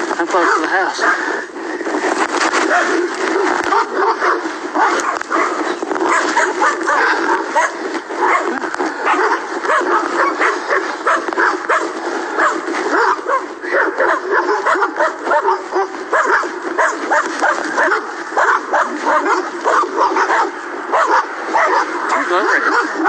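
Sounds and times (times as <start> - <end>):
dogs barking: 0.2 - 1.5, 2.5 - 23.0.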